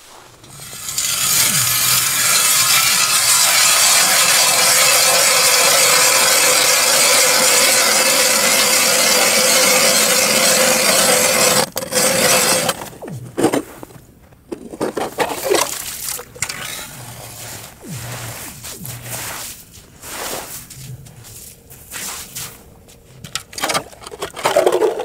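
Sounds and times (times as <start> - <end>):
ice auger drilling through ice: 0.4 - 14.0, 14.7 - 25.0.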